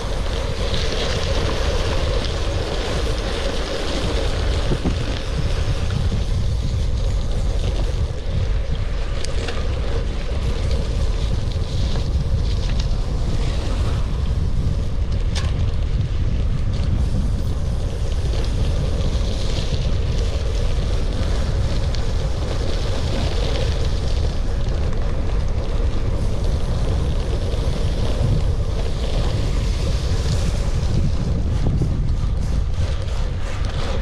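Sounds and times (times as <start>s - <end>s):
tyres rumbling on gravel: 0.0s - 34.0s
wind buffeting microphone: 0.0s - 34.0s.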